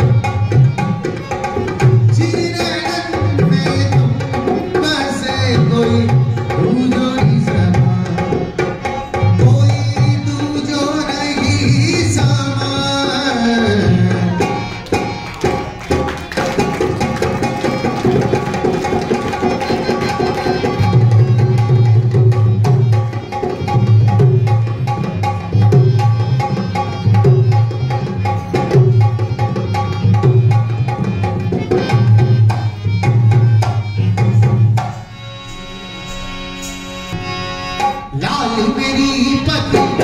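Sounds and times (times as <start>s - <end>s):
hand drum fast beat: 0.0s - 34.9s.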